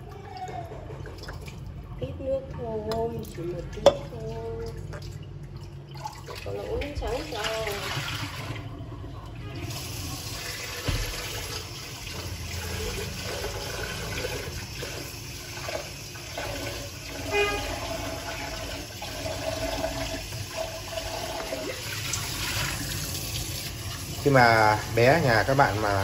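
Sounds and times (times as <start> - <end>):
water pouring between cups: 3.1 - 26.0.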